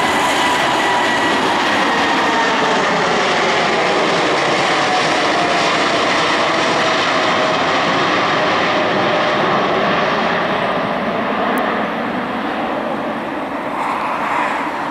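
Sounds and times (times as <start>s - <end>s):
jet engines at takeoff: 0.0s - 14.9s.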